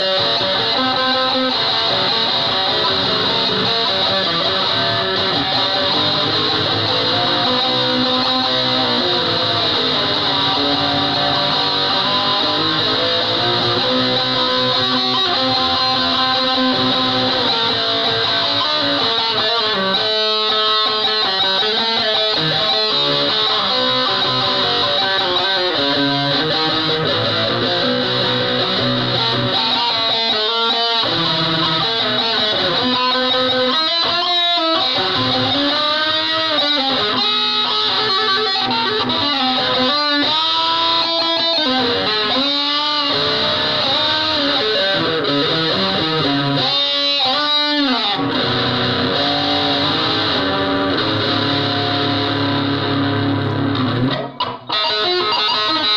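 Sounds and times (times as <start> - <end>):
distorted electric guitar: 0.0 - 55.9.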